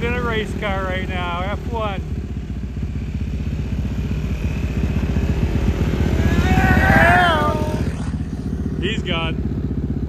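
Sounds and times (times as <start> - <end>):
quad engine puttering: 0.0 - 10.0.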